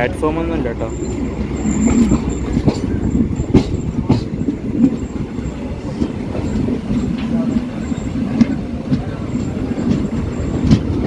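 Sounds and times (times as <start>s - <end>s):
train wheels rumbling on rail: 0.0s - 11.0s
wheels clacking over rail joints: 0.0s - 11.0s.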